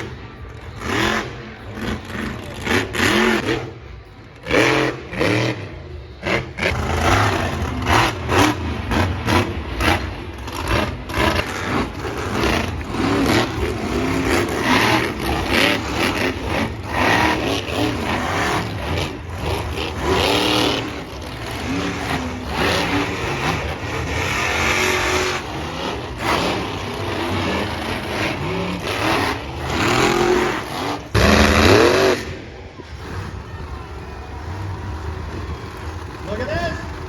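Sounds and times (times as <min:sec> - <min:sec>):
truck engine revving hard: 0:00.0 - 0:37.0.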